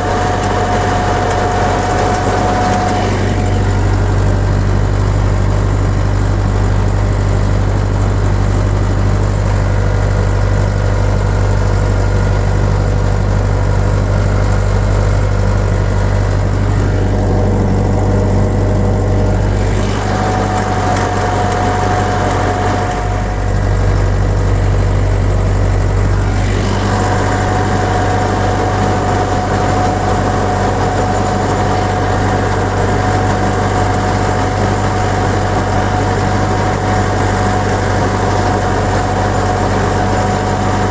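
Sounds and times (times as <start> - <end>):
steady whine: 0.0 - 40.9
tractor diesel engine running: 0.0 - 40.9.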